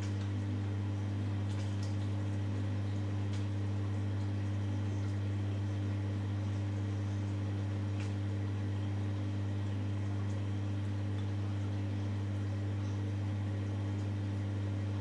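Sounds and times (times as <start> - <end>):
washing machine drain pump humming: 0.0 - 15.0.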